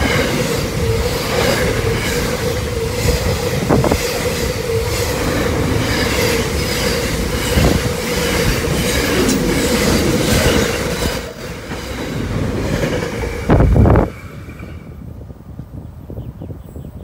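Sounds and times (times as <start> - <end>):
train wagons rolling past: 0.0 - 15.2.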